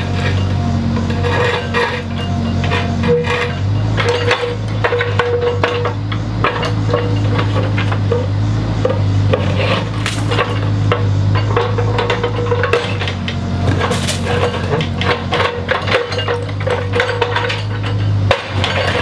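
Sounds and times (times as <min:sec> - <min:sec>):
bricks knocking and falling: 0:00.0 - 0:19.0
machine engine running: 0:00.0 - 0:19.0.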